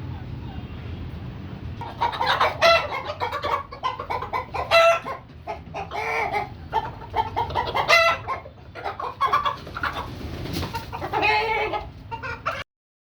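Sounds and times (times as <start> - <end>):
chickens clucking: 0.0 - 12.7.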